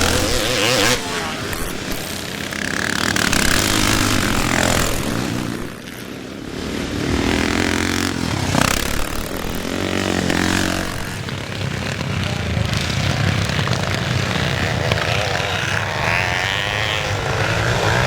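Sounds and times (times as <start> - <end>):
off-road motorcycles racing past: 0.0 - 18.0.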